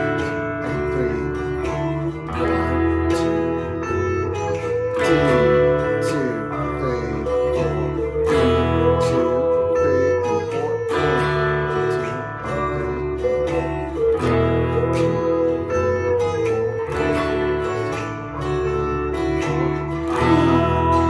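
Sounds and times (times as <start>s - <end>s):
bass line: 0.0s - 21.0s
electric guitar strumming chords: 0.0s - 21.0s.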